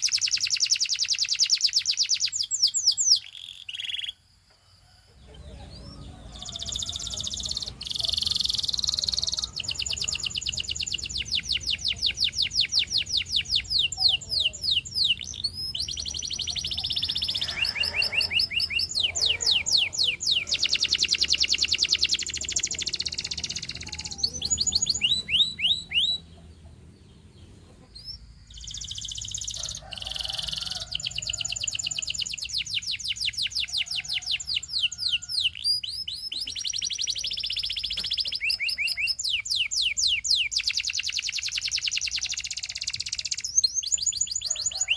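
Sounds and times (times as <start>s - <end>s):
canary singing trilled rolls: 0.0s - 4.2s, 5.2s - 44.9s.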